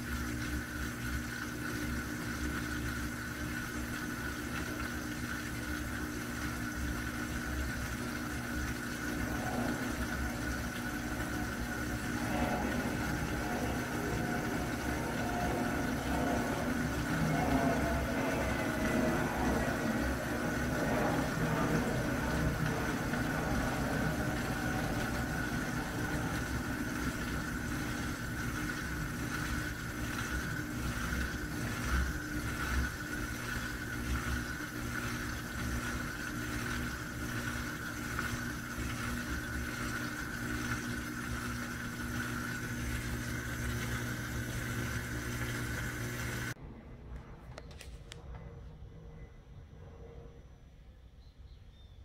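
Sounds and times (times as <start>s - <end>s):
washing machine spin motor hum: 0.0s - 47.4s.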